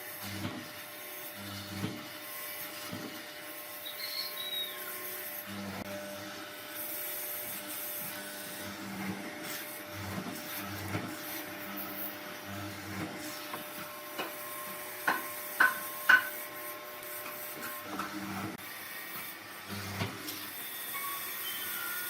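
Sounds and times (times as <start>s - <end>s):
power tool grinding wood: 0.0s - 22.0s.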